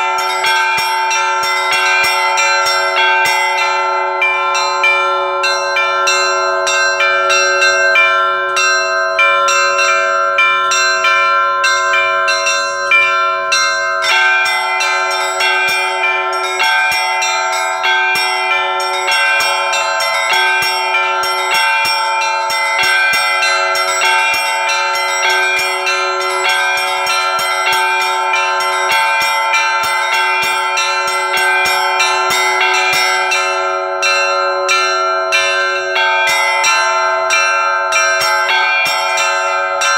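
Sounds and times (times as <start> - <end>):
hum of large bells: 0.0 - 39.9
small high bells in fast run: 0.0 - 39.9.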